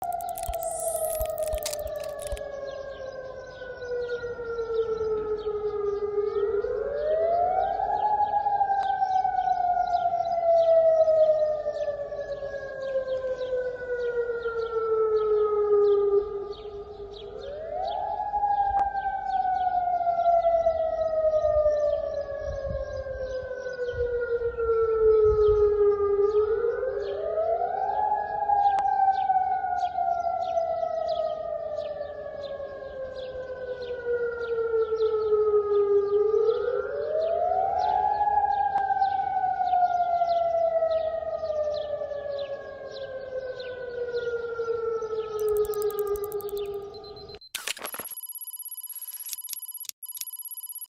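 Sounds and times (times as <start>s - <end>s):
warning sirens wailing: 0.0s - 47.1s.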